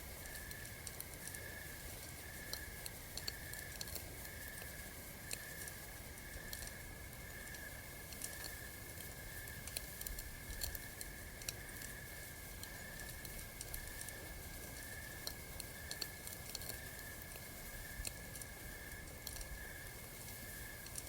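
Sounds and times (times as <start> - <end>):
campfire crackling and popping: 0.2 - 21.0.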